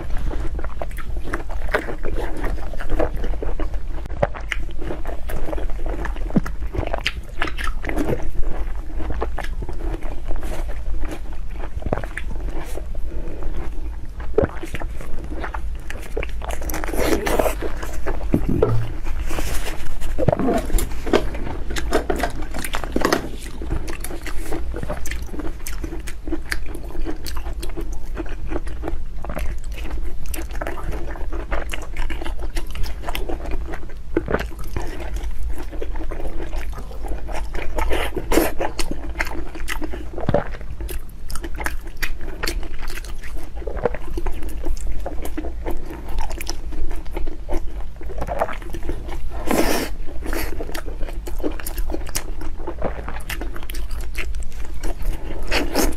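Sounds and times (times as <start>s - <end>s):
person chewing food: 0.0s - 55.9s
steady low hum: 0.0s - 55.9s.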